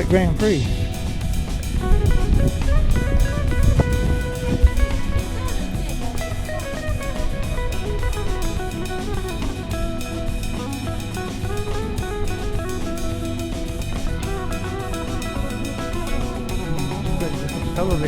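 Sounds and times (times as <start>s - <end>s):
drum kit and guitar music: 0.0s - 18.0s.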